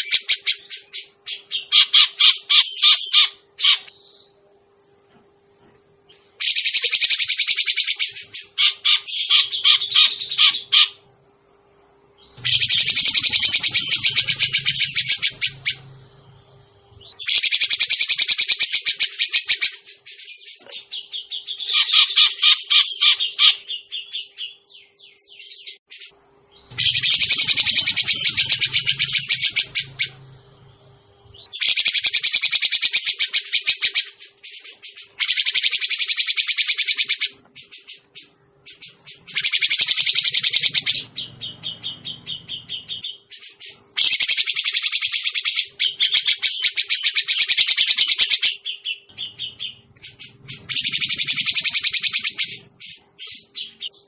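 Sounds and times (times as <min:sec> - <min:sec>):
bulbul harsh chattering calls: 0:00.0 - 0:03.9, 0:06.4 - 0:11.1, 0:12.2 - 0:24.6, 0:26.0 - 0:54.0.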